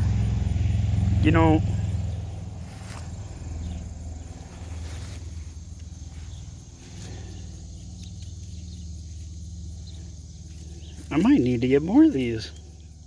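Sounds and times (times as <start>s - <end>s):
low rumble: 0.0s - 11.2s
insects trilling: 0.0s - 13.0s.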